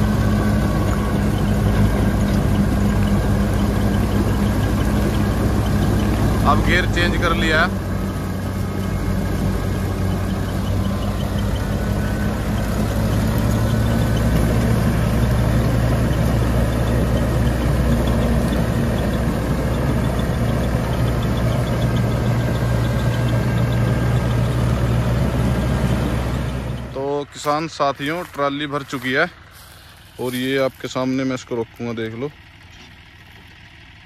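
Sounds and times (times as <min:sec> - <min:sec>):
reaper machinery whirring: 0:00.0 - 0:33.0
tractor diesel engine running: 0:00.0 - 0:34.0.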